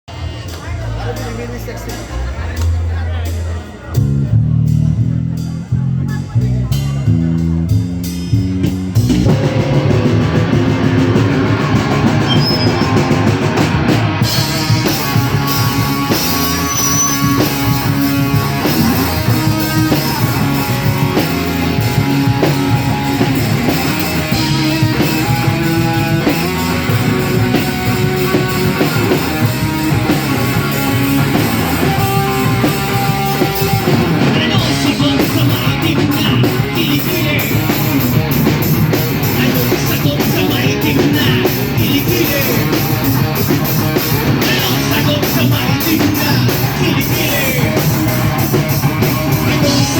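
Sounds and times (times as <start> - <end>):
live rock band playing: 0.1 - 49.9.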